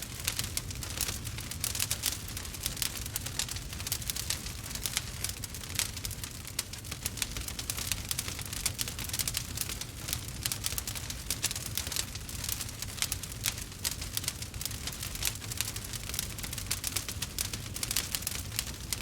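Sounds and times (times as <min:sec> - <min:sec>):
low rumble of burning logs: 0:00.0 - 0:19.0
wood fire crackling: 0:00.0 - 0:19.0.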